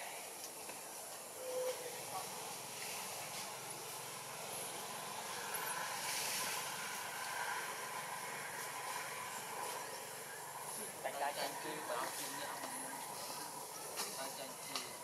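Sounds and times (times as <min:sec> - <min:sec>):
distant engine hum: 0:01.3 - 0:15.0.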